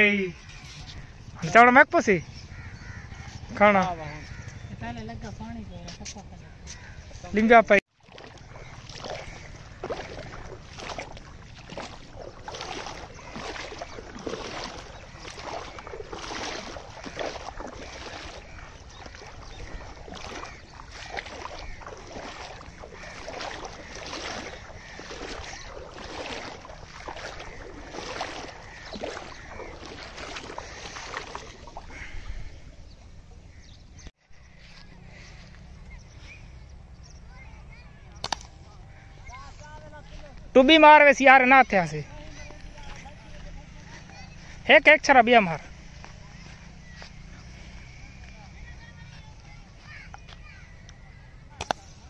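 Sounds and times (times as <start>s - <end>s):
water splashing rhythmically: 0.0s - 52.0s.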